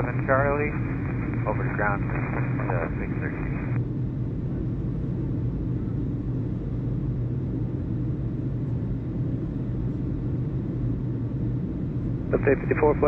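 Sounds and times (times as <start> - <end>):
constant low hum: 0.0 - 13.0
steady low rumble: 0.0 - 13.0.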